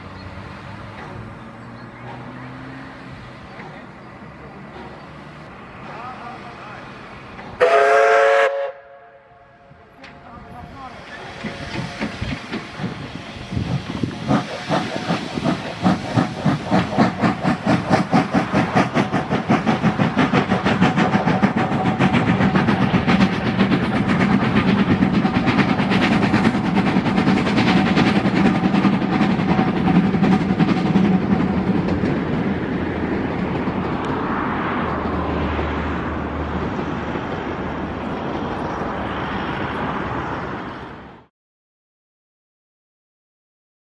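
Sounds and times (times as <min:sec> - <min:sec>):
steam locomotive exhaust beats: 0:00.0 - 0:40.0
train rolling noise: 0:00.0 - 0:41.3.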